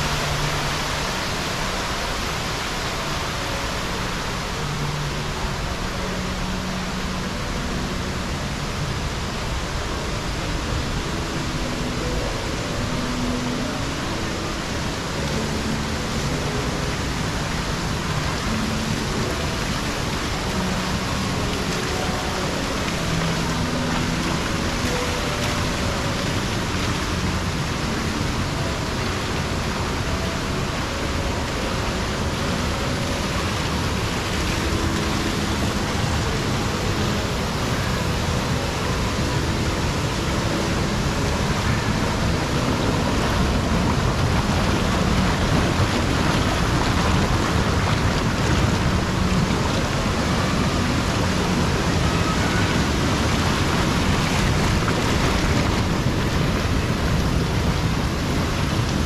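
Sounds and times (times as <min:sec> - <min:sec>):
water jets churning and bubbling: 0:00.0 - 0:59.0.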